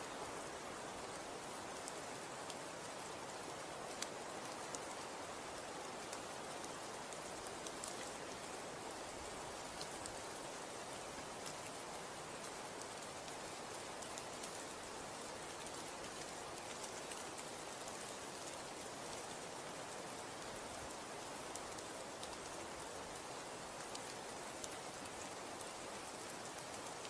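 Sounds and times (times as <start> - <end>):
soft hiss of falling snow: 0.0 - 27.0.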